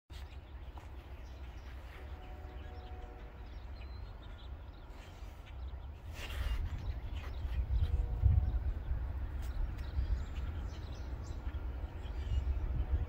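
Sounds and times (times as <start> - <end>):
birds chirping: 0.1 - 13.0
steady low rumble: 0.2 - 13.0.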